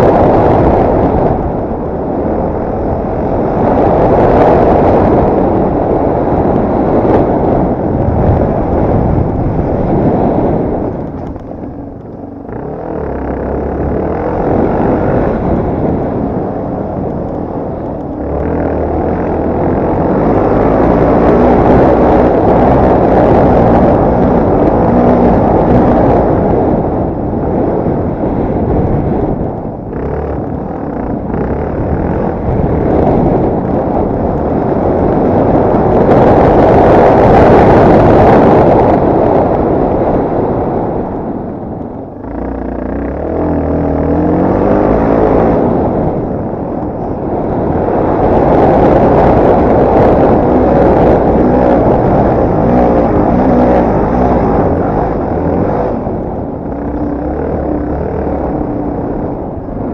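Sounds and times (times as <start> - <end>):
motorcycle engine running off-road: 0.0 - 59.9.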